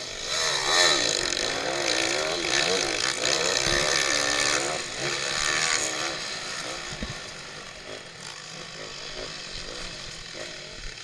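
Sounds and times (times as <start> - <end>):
pitbike engines revving: 0.0 - 11.0.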